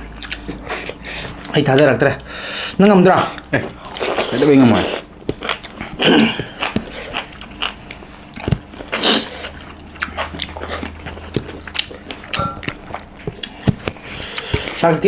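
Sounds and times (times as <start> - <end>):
chewing and lip-smacking: 0.0 - 14.8.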